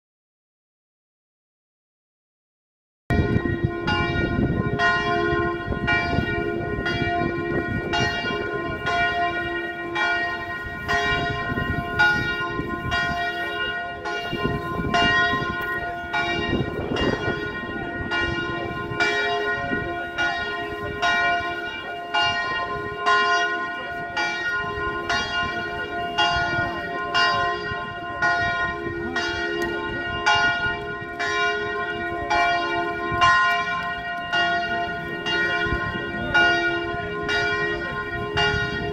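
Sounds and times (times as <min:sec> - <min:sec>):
church bell tolling: 0:03.1 - 0:38.9.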